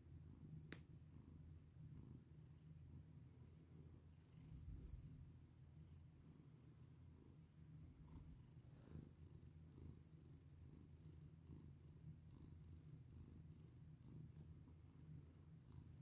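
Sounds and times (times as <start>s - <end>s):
cat purring faintly: 0.0s - 16.0s.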